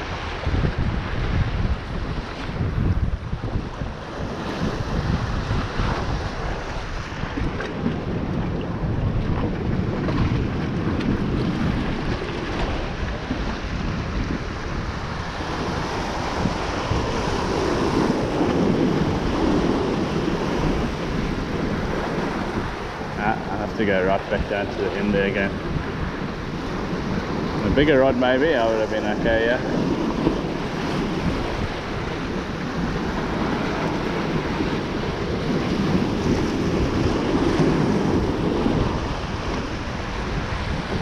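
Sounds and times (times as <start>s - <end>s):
rough surf: 0.0s - 41.0s
wind buffeting microphone: 0.0s - 41.0s.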